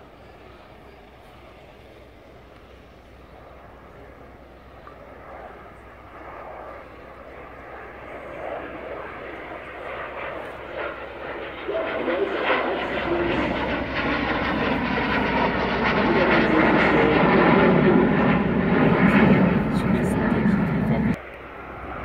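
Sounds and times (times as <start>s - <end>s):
aircraft engines in flight: 0.0s - 22.0s.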